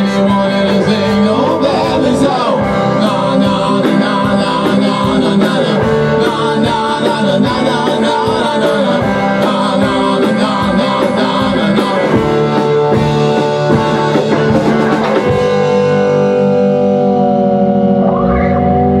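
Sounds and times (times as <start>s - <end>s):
held guitar and bass chord: 0.0s - 19.0s
rock band playing: 0.0s - 19.0s.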